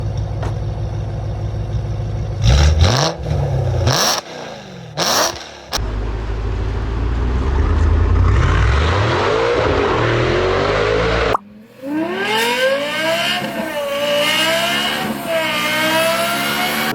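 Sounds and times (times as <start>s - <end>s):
car engine revving: 2.4s - 16.9s.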